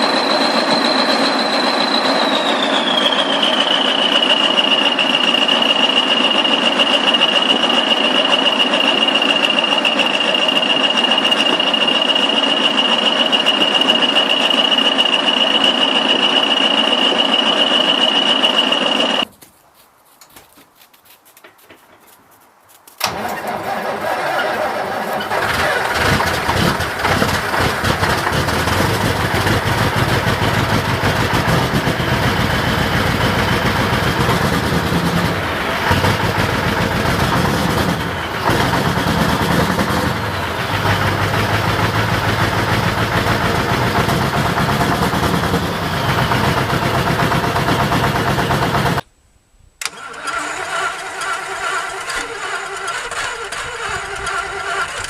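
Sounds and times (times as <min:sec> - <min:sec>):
large diesel engine running: 0:00.0 - 0:19.3, 0:23.0 - 0:49.1, 0:49.9 - 0:55.0
quieter diesel engine running: 0:00.0 - 0:19.3, 0:23.0 - 0:49.1.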